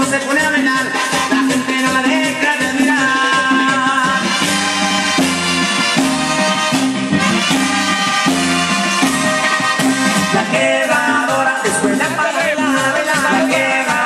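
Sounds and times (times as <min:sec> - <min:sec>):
latin dance music: 0:00.0 - 0:14.0
shaker rhythm: 0:00.0 - 0:14.0.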